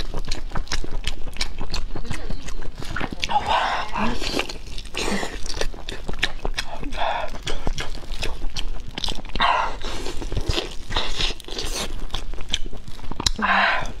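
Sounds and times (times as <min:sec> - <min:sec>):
chewing with wet mouth smacks: 0:00.0 - 0:14.0
sucking or tearing sounds: 0:00.0 - 0:14.0.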